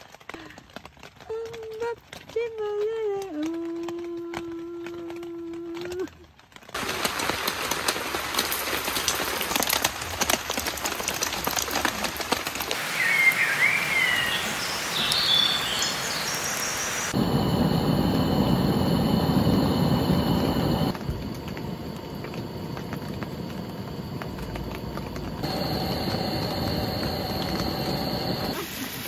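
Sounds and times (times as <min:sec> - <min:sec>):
rain pattering into puddles: 0:00.0 - 0:29.0.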